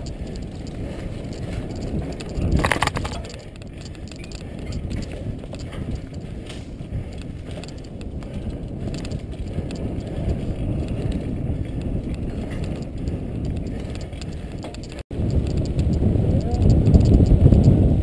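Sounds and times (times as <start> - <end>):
bike rattling clicks: 0.0 - 18.0
bike tyres rumbling on dirt: 0.0 - 18.0
wind on microphone: 0.0 - 18.0.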